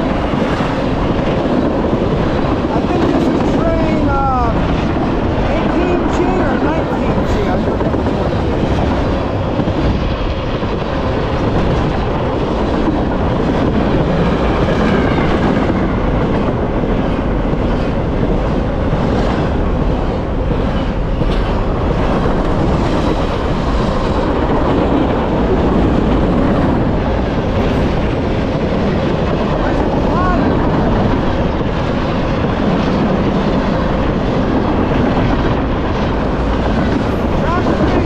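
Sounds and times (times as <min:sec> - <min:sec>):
train wheels rumbling and rattling: 0:00.0 - 0:38.0.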